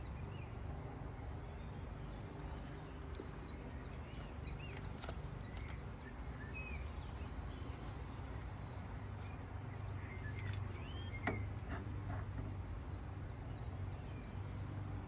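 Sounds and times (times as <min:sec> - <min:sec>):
small birds chirping: 0:01.4 - 0:15.0.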